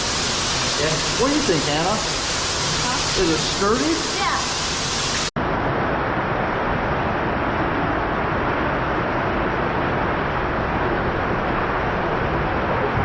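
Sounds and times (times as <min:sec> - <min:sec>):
waterfall rushing in a cave: 0:00.0 - 0:13.0.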